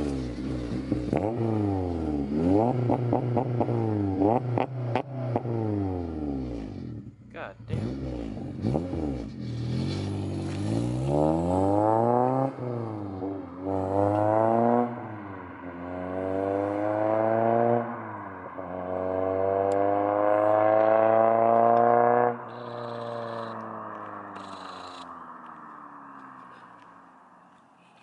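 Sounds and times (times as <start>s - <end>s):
car engine accelerating: 0.0s - 27.3s.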